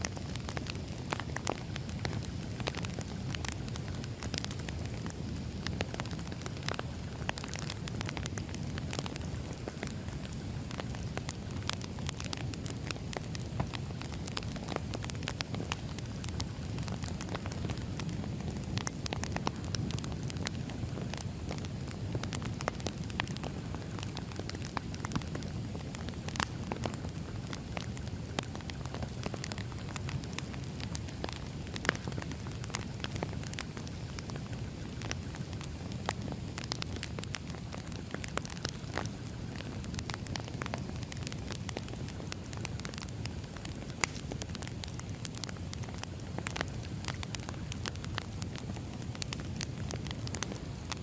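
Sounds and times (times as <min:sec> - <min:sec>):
fire pops and snaps: 0:00.0 - 0:51.0
firewood crackling: 0:00.0 - 0:51.0
low rumble of flame: 0:00.0 - 0:51.0.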